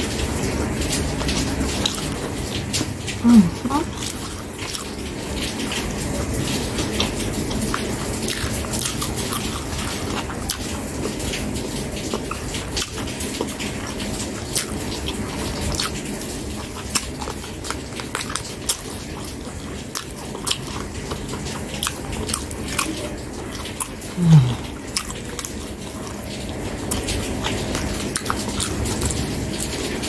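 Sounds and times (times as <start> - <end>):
chewing and biting meat: 0.0 - 30.0.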